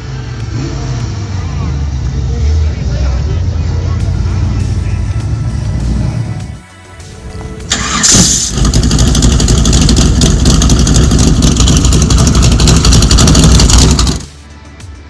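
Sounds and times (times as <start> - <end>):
vehicle engine revving: 0.0 - 14.3.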